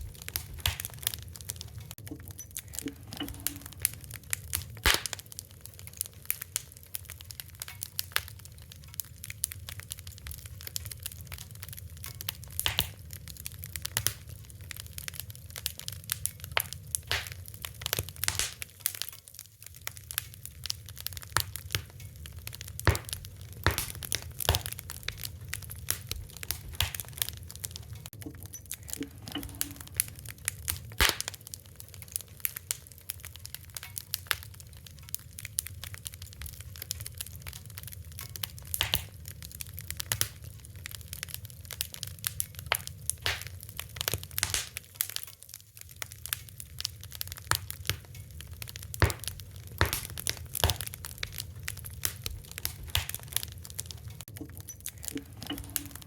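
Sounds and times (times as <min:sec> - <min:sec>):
low rumble of burning: 0:00.0 - 0:56.0
wood fire crackling and popping: 0:00.0 - 0:56.0.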